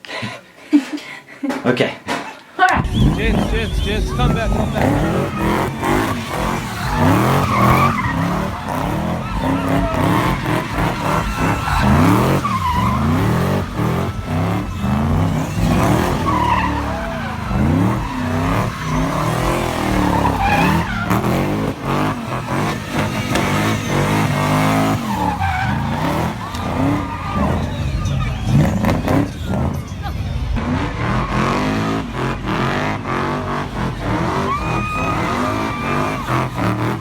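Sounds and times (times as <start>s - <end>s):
tyres squealing: 2.7s - 37.0s
car engine revving: 2.8s - 37.0s.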